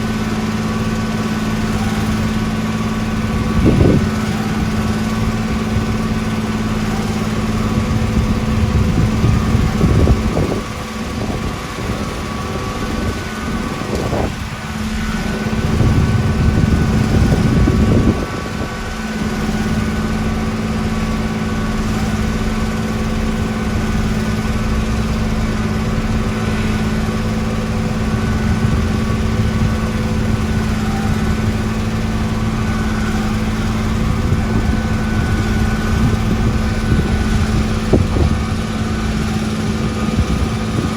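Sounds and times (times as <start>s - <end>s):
heavy machine engine humming: 0.0s - 40.9s.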